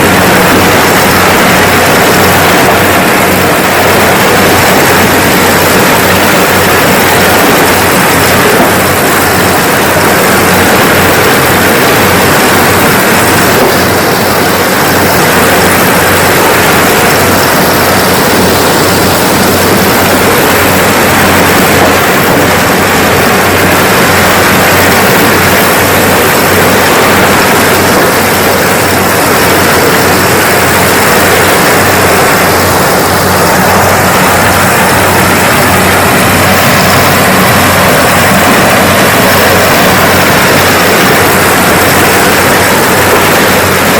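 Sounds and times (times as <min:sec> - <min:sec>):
combine harvester engine drone: 0:00.0 - 0:43.9.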